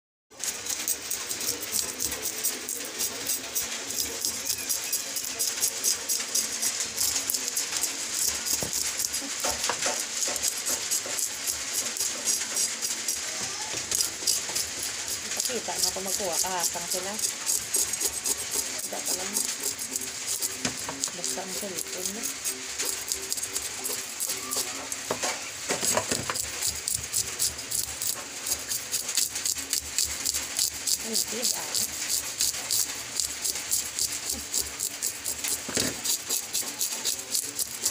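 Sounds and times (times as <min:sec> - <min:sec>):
knife scraping fish scales: 0:00.3 - 0:37.9.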